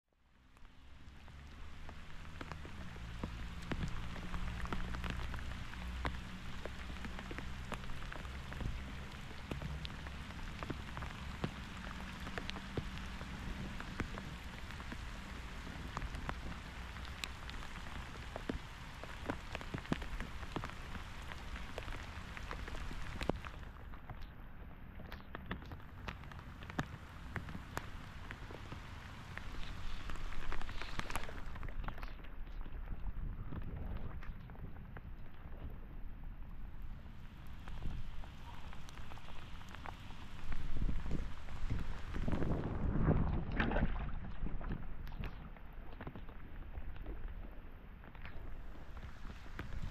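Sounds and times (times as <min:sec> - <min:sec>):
steady rain falling: 0:00.1 - 0:49.9.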